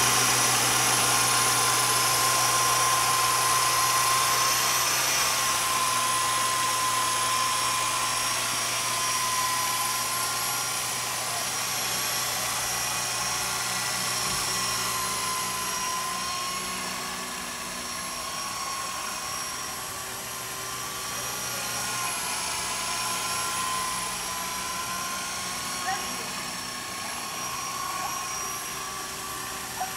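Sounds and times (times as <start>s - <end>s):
rc helicopter motor whine: 0.0s - 29.9s.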